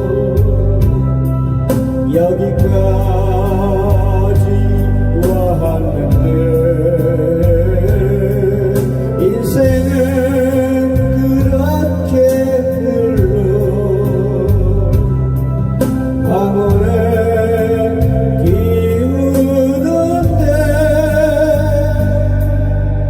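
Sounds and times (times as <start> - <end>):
instrumental ballad music: 0.0 - 23.0.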